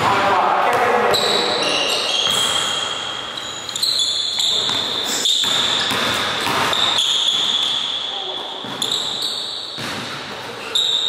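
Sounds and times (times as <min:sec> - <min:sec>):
sneaker squeaks: 0:00.8 - 0:11.0.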